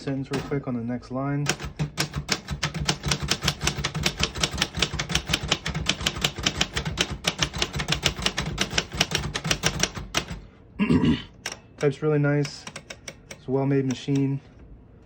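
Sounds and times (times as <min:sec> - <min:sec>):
manual typewriter typing: 0:00.3 - 0:00.7, 0:01.4 - 0:10.4, 0:11.4 - 0:14.3.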